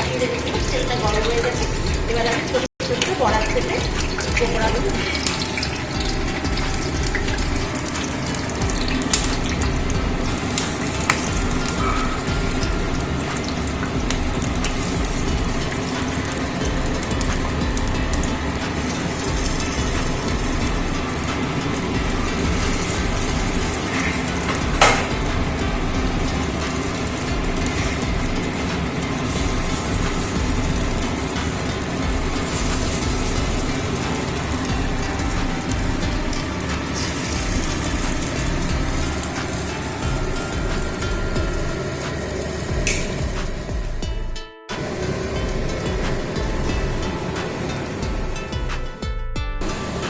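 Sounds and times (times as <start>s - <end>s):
food deep-frying in hot oil: 0.0s - 50.0s.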